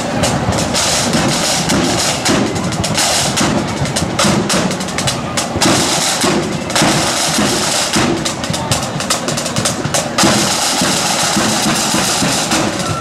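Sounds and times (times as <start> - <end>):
bass drum beat: 0.0 - 13.0
marching band snare drums: 0.0 - 13.0.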